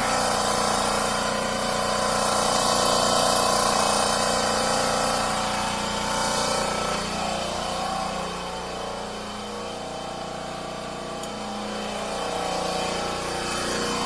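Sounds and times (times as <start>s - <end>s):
electric pump motor humming: 0.0s - 14.0s.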